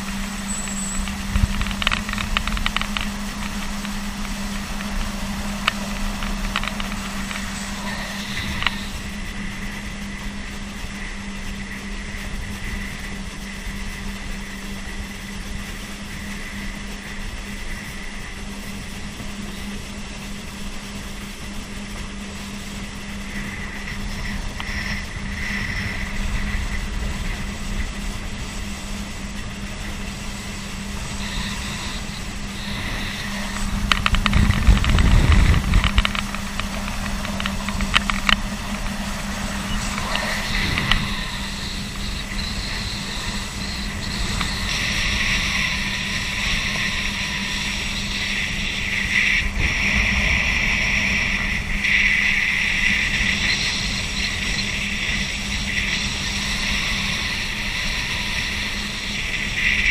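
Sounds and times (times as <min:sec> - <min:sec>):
boat engine droning: 0:00.0 - 0:59.9
low rumble: 0:00.0 - 0:59.9
wind: 0:00.0 - 0:59.9.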